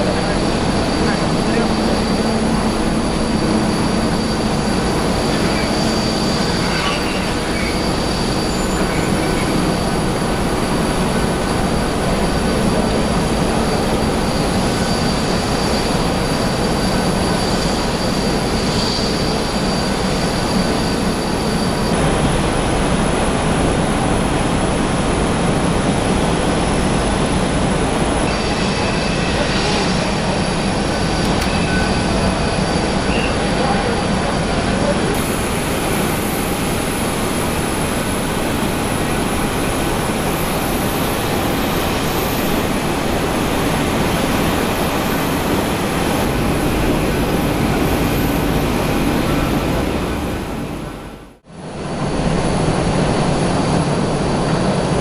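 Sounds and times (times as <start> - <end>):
jet and ground machinery roar: 0.0 - 55.0
thin high whine: 0.0 - 55.0.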